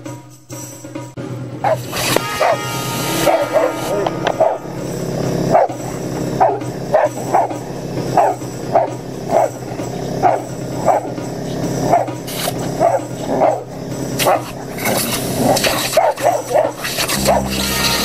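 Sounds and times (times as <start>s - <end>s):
steady low hum: 1.2s - 18.0s
dogs barking excitedly: 1.6s - 18.0s.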